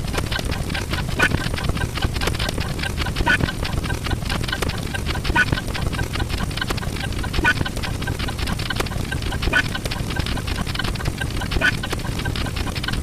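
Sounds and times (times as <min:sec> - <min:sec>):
rapid stream of clicks: 0:00.0 - 0:13.0.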